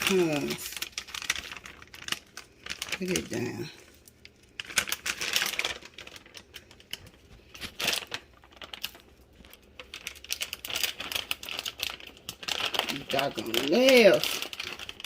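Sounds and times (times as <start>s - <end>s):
nuts clicking and rustling: 0.0s - 15.0s.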